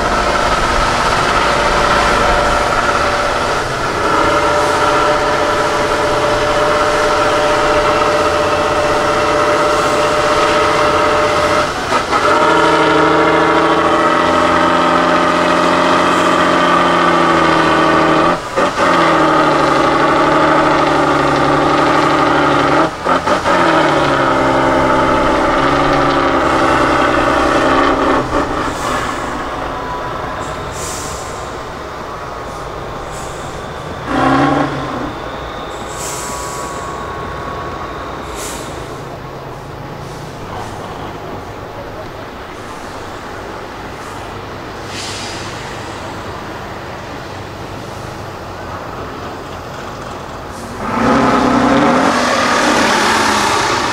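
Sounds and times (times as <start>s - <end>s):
truck diesel engine under load: 0.0s - 53.9s.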